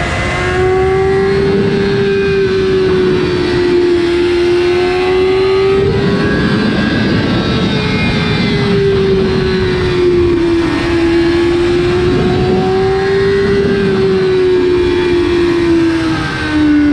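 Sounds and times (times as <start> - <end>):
motorcycle engine at high revs: 0.0 - 16.9
wind and road noise: 0.0 - 16.9.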